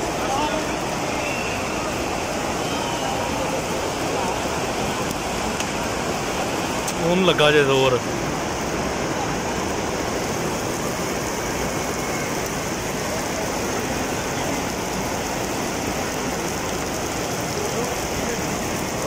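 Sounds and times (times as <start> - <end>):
rain pouring on stone: 0.0 - 19.0.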